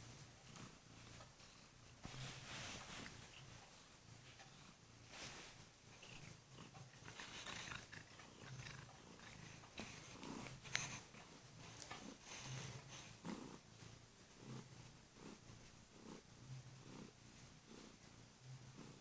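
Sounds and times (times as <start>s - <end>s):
soft rustles: 0.0s - 16.2s
cat purring: 0.0s - 19.0s.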